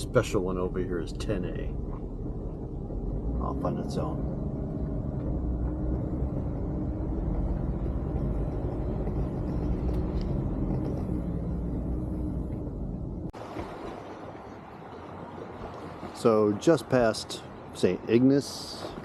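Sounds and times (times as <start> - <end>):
motor vehicle engine rumble: 0.0 - 16.3
outdoor background: 0.0 - 19.0.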